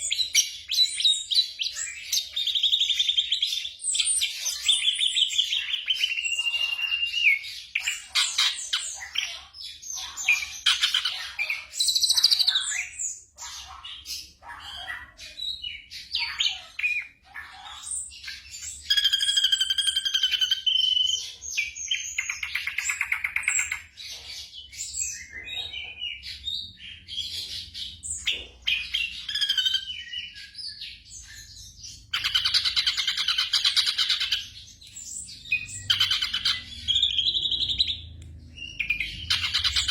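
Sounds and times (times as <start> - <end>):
bird singing chirps and whistles: 0.0 - 24.0, 24.7 - 39.9.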